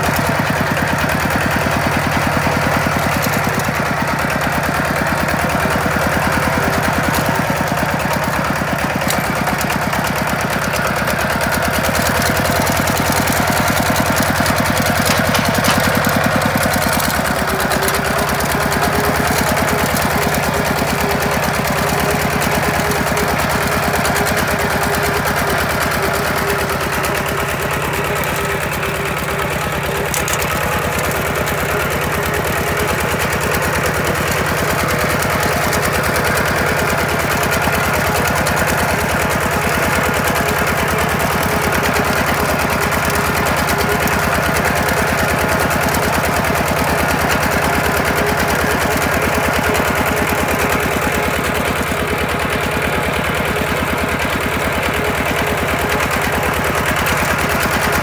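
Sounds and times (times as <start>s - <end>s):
diesel tractor engine chugging: 0.0s - 58.0s.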